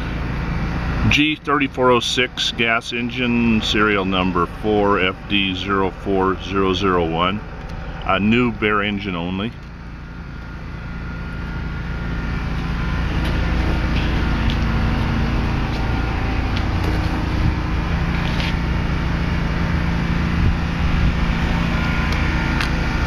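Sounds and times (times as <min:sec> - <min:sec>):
gas engine running: 0:00.0 - 0:23.0.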